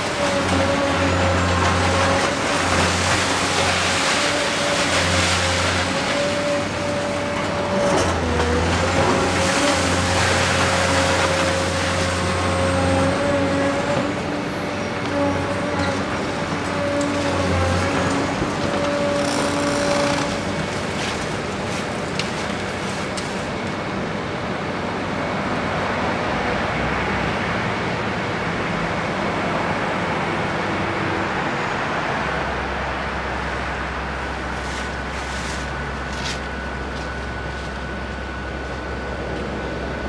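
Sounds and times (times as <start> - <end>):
excavator diesel engine and hydraulics: 0.0 - 40.0.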